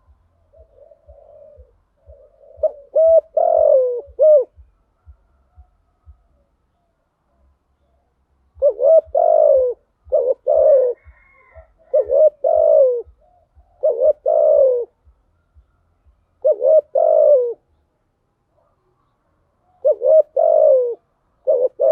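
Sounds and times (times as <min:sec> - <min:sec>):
dove cooing: 0:00.0 - 0:17.8, 0:18.5 - 0:21.9.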